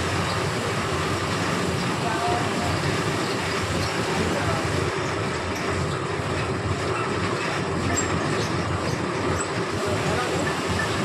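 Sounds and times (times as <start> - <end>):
fabric machine running: 0.0 - 11.0.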